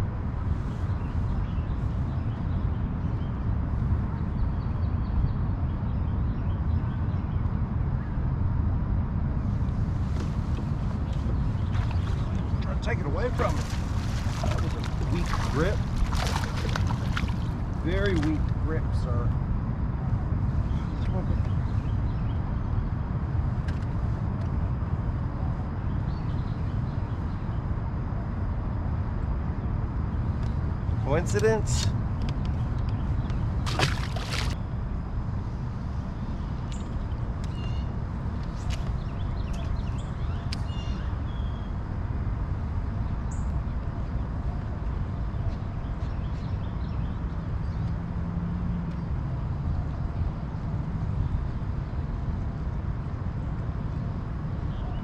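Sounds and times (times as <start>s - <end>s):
wind buffeting microphone: 0.0s - 47.8s
low rumbling outdoor noise: 0.0s - 55.0s.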